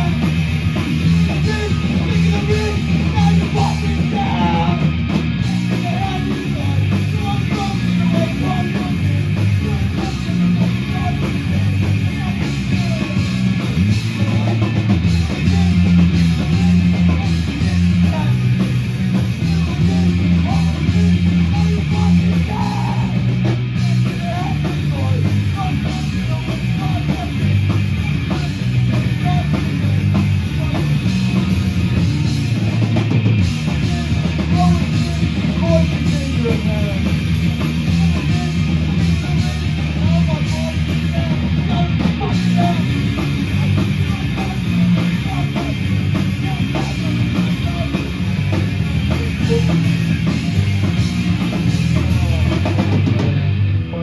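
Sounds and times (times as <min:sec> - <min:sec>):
singer shouting: 0:00.0 - 0:32.9, 0:33.6 - 0:54.0
drum kit: 0:00.0 - 0:54.0
electric bass: 0:00.0 - 0:54.0
electric guitar: 0:00.0 - 0:54.0.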